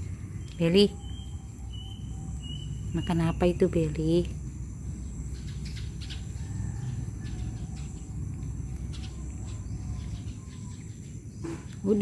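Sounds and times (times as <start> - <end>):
insects calling: 0.0 - 12.0
low rumble: 0.0 - 12.0.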